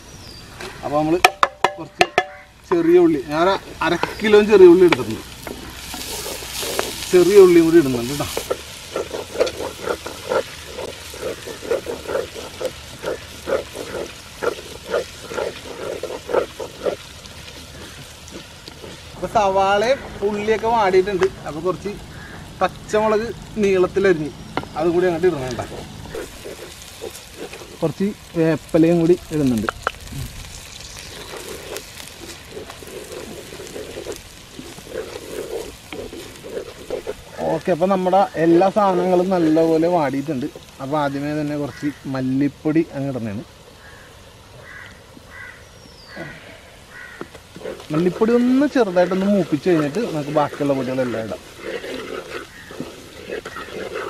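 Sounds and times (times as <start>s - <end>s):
wooden spatula scraping a pot: 2.2s - 22.6s, 23.6s - 41.6s, 47.0s - 54.0s
onions sizzling in oil: 2.2s - 54.0s
sharp crackles: 3.2s - 54.0s.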